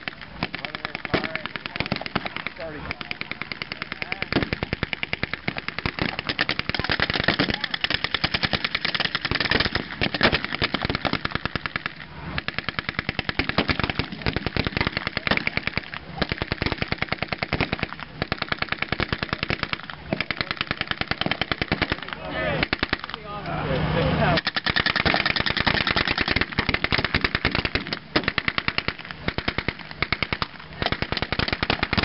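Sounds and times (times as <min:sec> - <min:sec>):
machine gun automatic fire: 0:00.0 - 0:23.2, 0:24.4 - 0:32.0.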